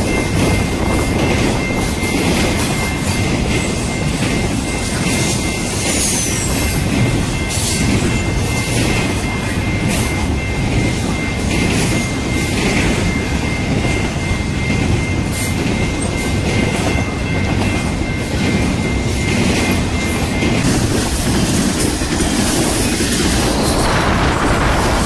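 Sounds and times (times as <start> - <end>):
crossing signal ringing: 0.0 - 25.0
freight train rumbling and rattling: 0.0 - 25.0.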